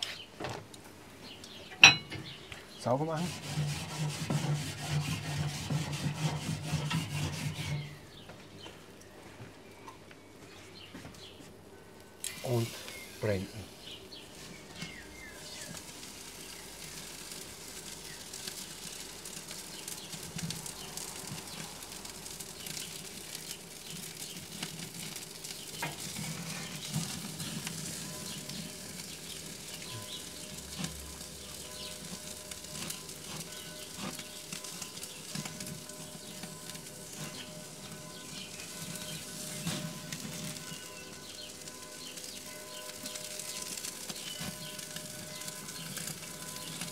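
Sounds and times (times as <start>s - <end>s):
steak sizzling on grill: 1.0s - 8.6s, 12.1s - 46.9s.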